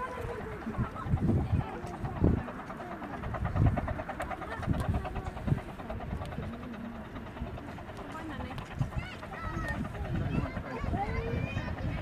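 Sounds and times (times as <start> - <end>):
miniature train running: 0.0 - 12.0.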